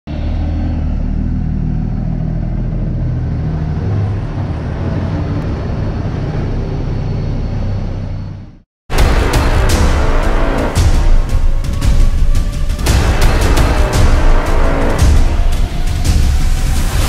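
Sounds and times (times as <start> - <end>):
diesel truck engine rumbling: 0.1 - 16.1.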